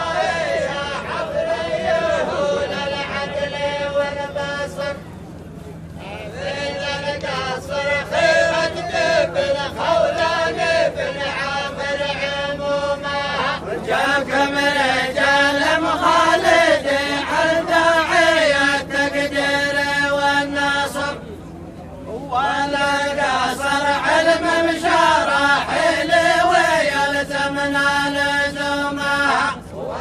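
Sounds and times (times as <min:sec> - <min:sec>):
men chanting together: 0:00.0 - 0:05.0, 0:06.0 - 0:21.2, 0:22.2 - 0:30.0.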